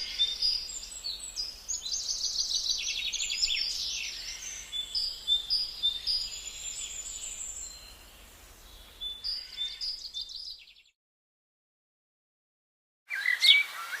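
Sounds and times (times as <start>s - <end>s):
birds chirping: 0.0s - 10.9s, 13.1s - 14.0s.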